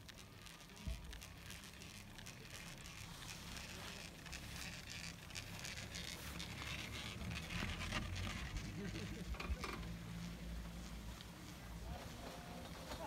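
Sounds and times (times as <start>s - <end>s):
faint crackling rustle: 0.0s - 13.0s.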